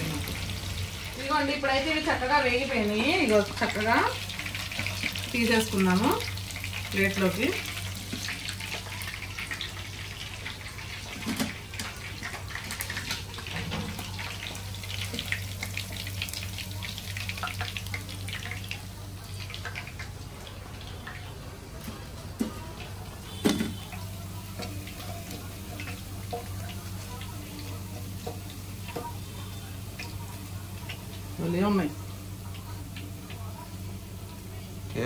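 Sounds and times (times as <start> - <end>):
oil sizzling and crackling: 0.0 - 35.0.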